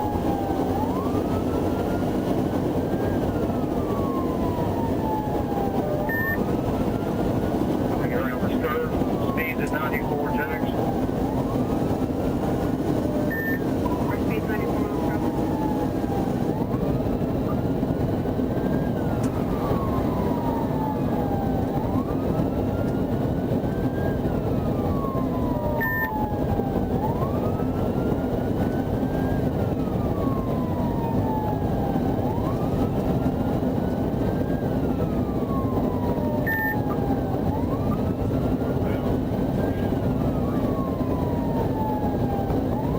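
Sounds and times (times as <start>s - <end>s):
police siren wailing: 0.0s - 42.9s
road and engine noise: 0.0s - 42.9s.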